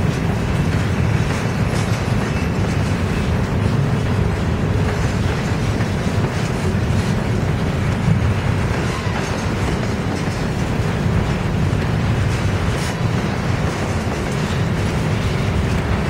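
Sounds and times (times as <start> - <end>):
train rumbling past: 0.0 - 16.0
wheels clicking over rail joints: 0.0 - 16.0.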